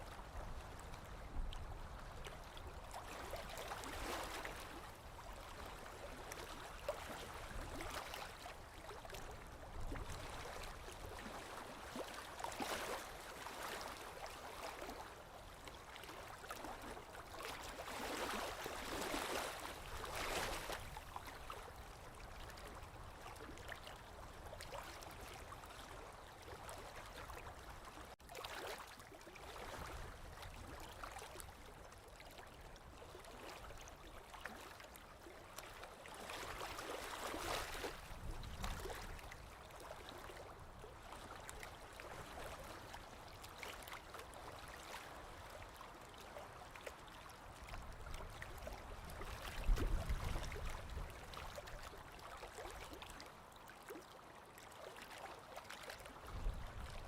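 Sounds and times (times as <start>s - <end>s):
small waves lapping: 0.0s - 57.0s.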